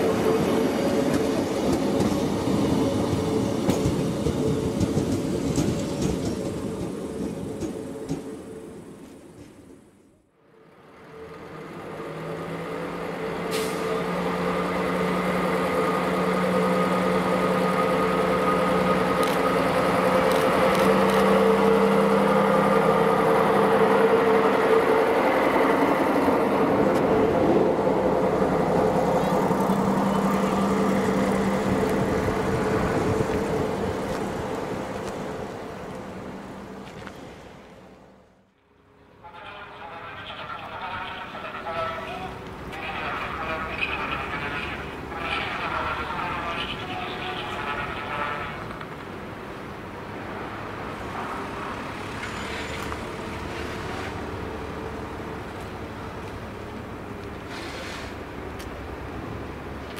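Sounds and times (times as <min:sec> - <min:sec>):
railcar diesel engine drone: 0:00.0 - 0:59.9.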